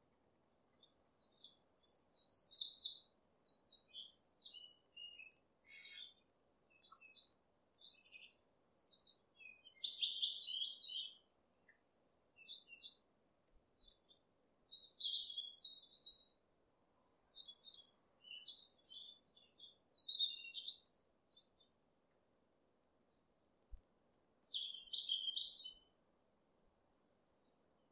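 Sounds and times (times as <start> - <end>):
small birds chirping and twittering: 0.5 - 16.4, 17.0 - 21.8, 23.7 - 27.9.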